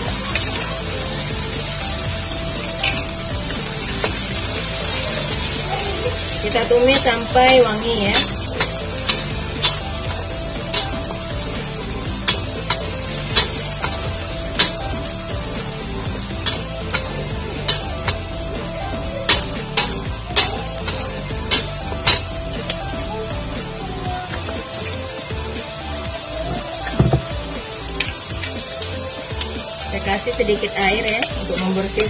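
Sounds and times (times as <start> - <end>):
spice paste sizzling in oil: 0.0 - 32.0.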